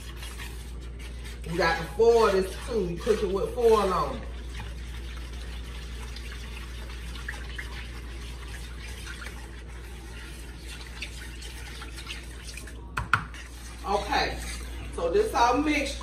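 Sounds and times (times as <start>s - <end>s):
liquid sloshing in a bowl: 0.0s - 16.0s.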